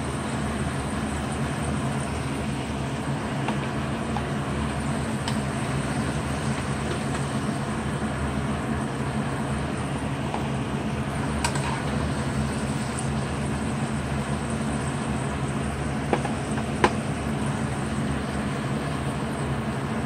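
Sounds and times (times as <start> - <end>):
fries sizzling in hot oil: 0.0 - 20.0
steady low hum: 0.0 - 20.0.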